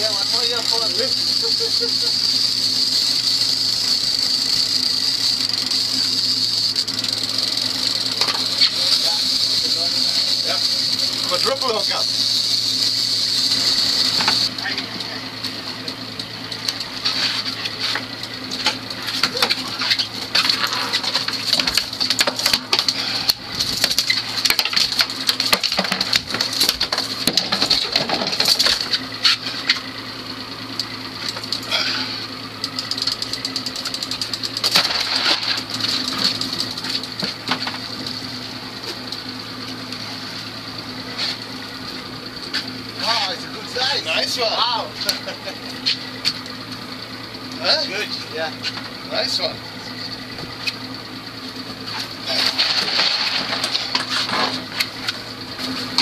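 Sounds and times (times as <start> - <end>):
outboard engines idling: 0.0 - 56.0.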